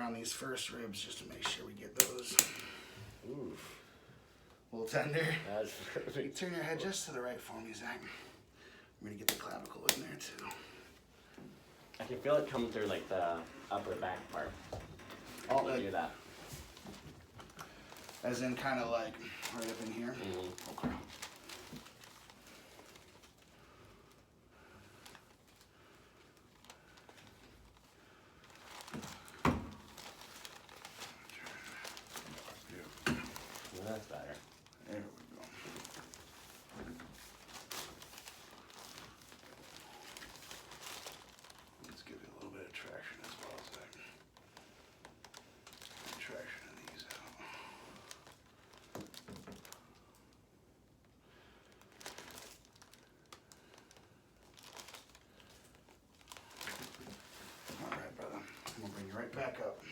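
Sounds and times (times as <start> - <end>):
quiet rustling and handling: 0.0 - 59.9.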